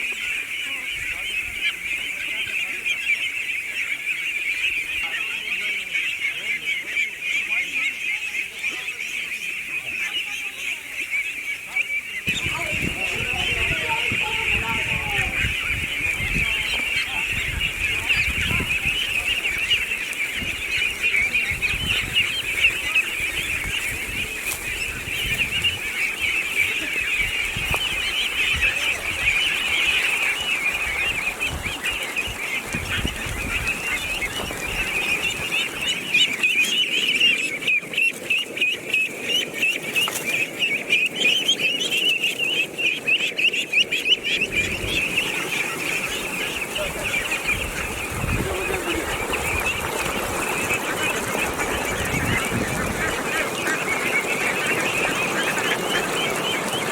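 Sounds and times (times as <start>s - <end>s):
geese honking: 0.0s - 56.9s.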